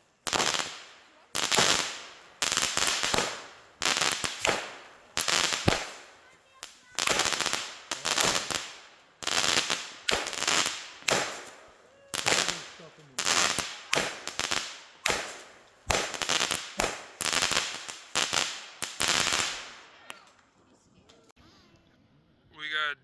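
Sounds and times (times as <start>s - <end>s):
firework shots with hiss and crackle: 0.0s - 20.4s.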